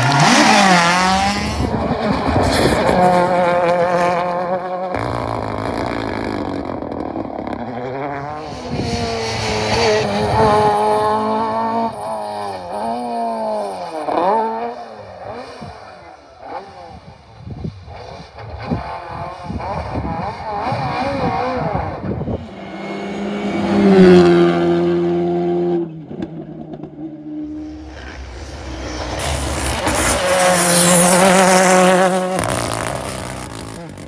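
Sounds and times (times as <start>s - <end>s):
cars passing close by: 0.0s - 34.0s
rally car engines revving: 0.0s - 34.0s.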